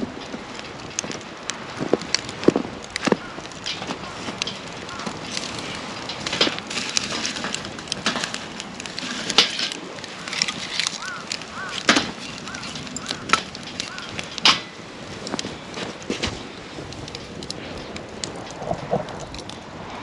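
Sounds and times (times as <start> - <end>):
sharp fire pops: 0.0 - 19.6
campfire crackling: 0.0 - 20.0.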